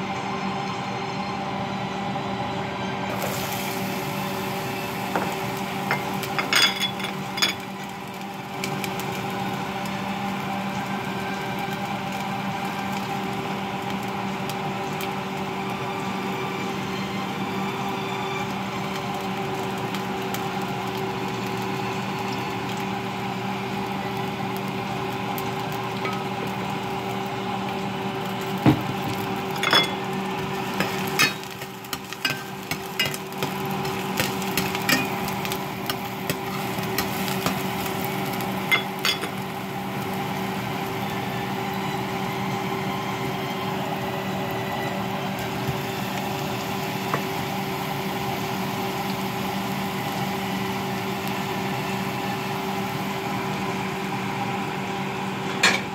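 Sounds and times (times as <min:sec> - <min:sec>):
onions frying in oil: 0:03.1 - 0:55.9.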